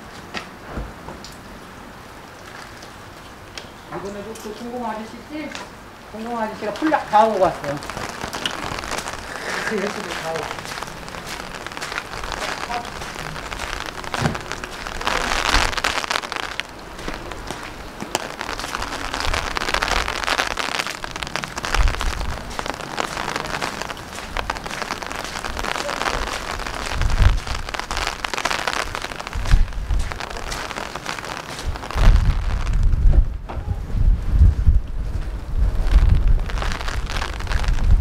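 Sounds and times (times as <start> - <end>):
rain falling on wet ground: 0.0 - 38.0
wind buffeting microphone: 6.8 - 38.0.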